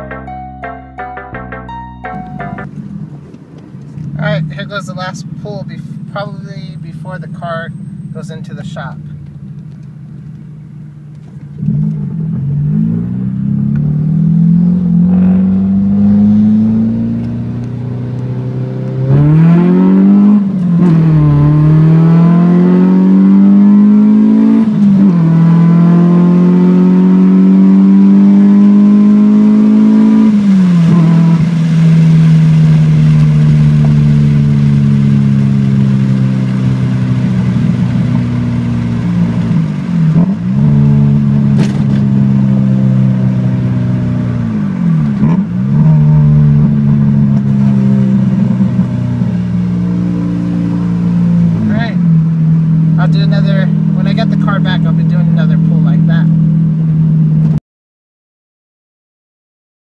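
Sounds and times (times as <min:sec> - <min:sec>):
car engine accelerating: 0:01.7 - 0:57.6.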